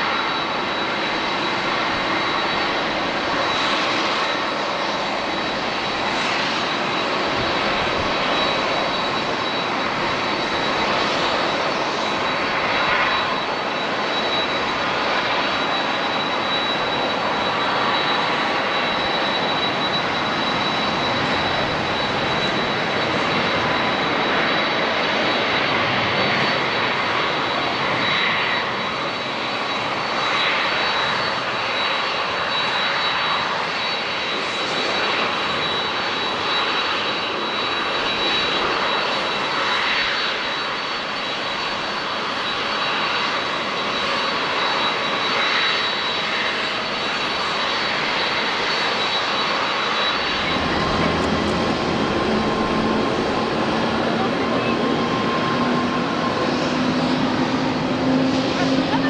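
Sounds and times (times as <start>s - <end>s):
high-pitched engine whine: 0.0s - 59.0s
jet engines running: 0.0s - 59.0s.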